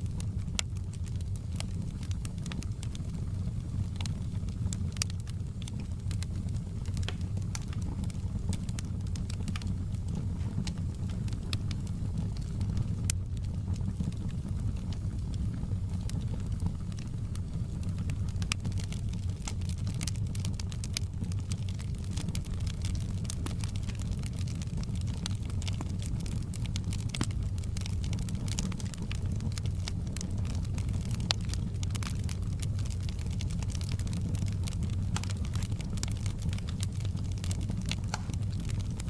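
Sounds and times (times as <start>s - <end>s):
campfire rumble: 0.0s - 39.0s
wood crackling and popping: 0.0s - 39.0s.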